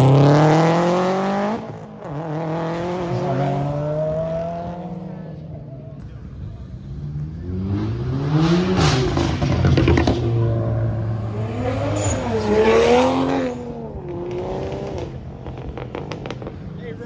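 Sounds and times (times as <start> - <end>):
car engine revving: 0.0 - 5.6, 6.7 - 16.6.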